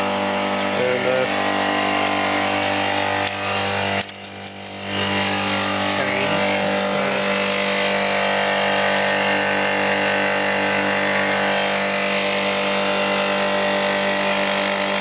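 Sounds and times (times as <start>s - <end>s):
compressor motor hum: 0.0s - 15.0s.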